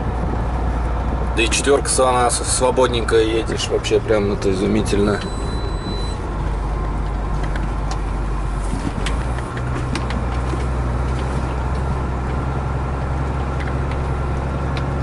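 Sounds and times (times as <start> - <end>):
truck diesel engine hum: 0.0 - 15.0.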